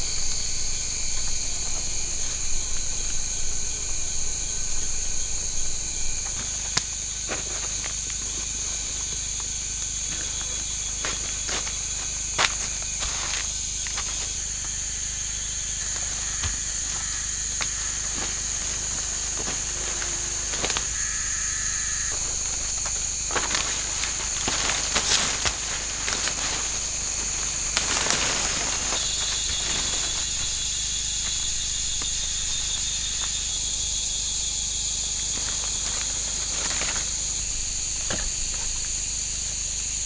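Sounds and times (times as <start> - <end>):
forest insects chorus: 0.0 - 40.0
snaps and rustles in undergrowth: 0.0 - 40.0.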